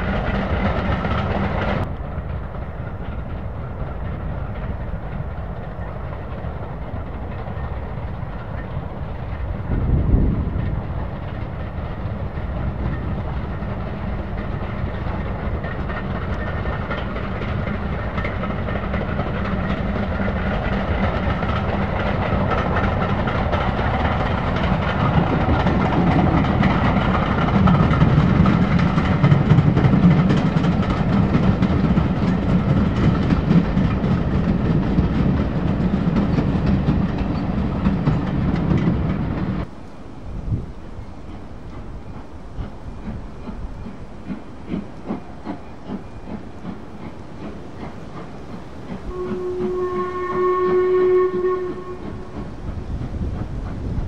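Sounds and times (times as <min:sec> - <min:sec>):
steam locomotive passing: 0:00.0 - 0:54.0.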